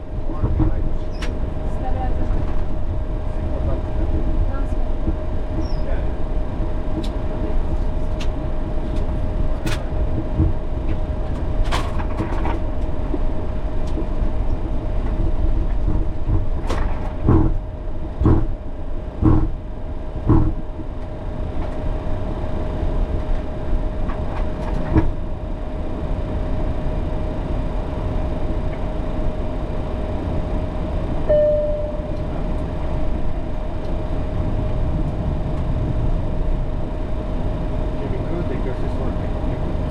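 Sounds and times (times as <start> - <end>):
constant whine: 0.0 - 39.9
jet engines idling rumble: 0.0 - 39.9.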